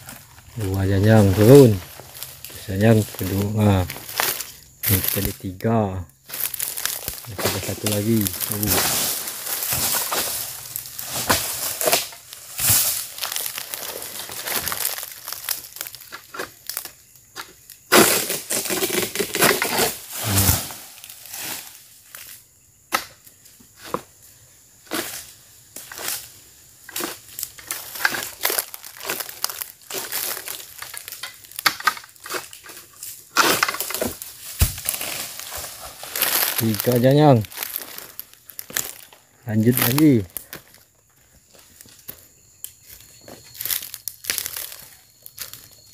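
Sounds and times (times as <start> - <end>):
dry leaves crunching: 0.0 - 5.5, 6.2 - 17.2, 17.9 - 22.3, 24.9 - 45.9.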